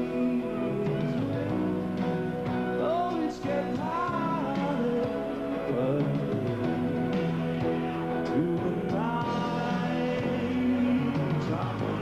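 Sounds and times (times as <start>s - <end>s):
man singing: 0.0s - 7.1s, 8.1s - 12.0s
live pop-rock band: 0.0s - 12.0s.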